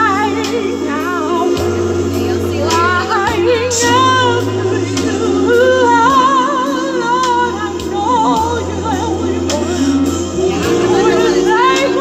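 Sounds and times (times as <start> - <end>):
instrumental accompaniment: 0.0 - 12.0
woman singing with vibrato: 0.0 - 12.0.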